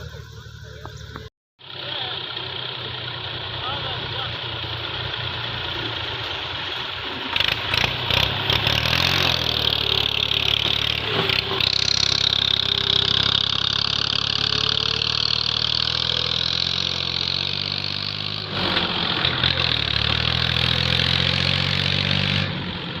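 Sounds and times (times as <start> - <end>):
tractor diesel engine running: 0.0 - 21.4.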